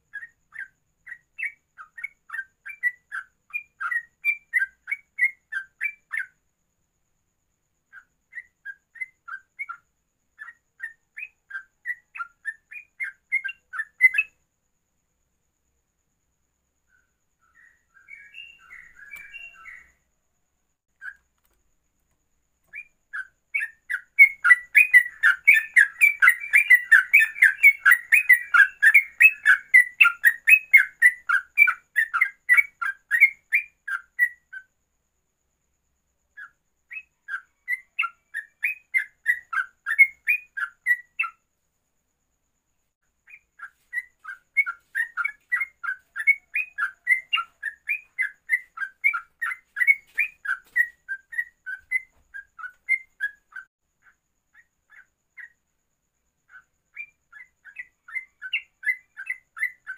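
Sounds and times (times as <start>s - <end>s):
bird singing rapid whistled notes: 0.0s - 6.4s, 7.9s - 14.4s, 16.9s - 20.1s, 22.6s - 34.7s, 36.3s - 41.5s, 43.2s - 55.6s, 56.4s - 59.9s.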